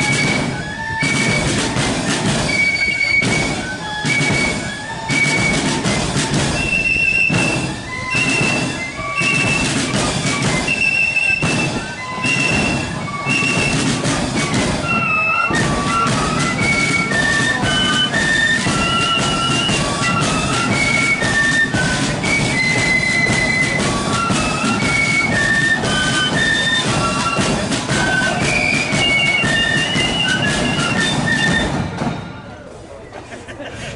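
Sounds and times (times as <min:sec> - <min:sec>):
drums beating: 0:00.0 - 0:33.0
flutes playing melody: 0:00.0 - 0:33.0.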